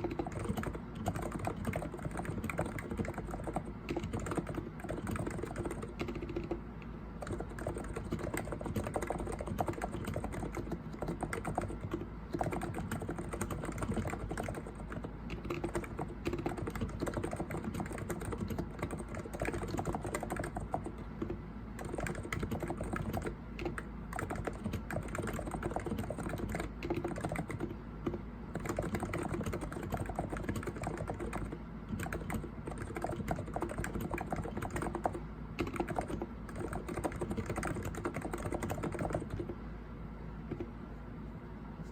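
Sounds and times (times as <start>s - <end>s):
keyboard typing: 0.0s - 39.6s, 40.5s - 40.7s.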